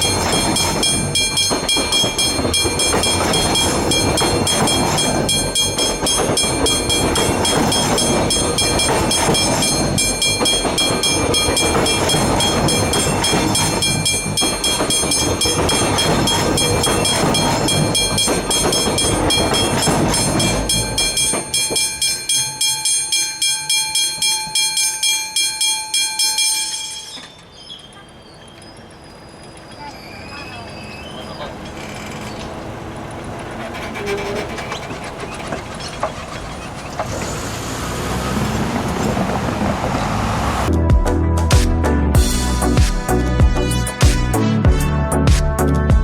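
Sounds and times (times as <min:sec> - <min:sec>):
train passing: 0:00.0 - 0:25.6, 0:26.2 - 0:41.2
crossing warning bells ringing: 0:00.0 - 0:40.9.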